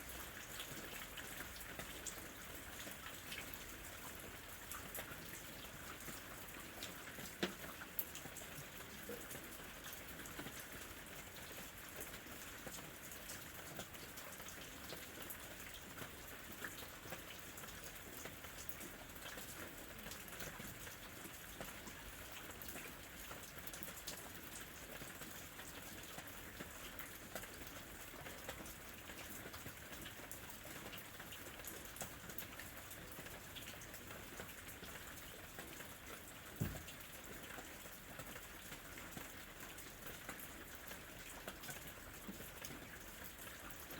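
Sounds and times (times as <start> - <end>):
steady rainfall: 0.0 - 43.9.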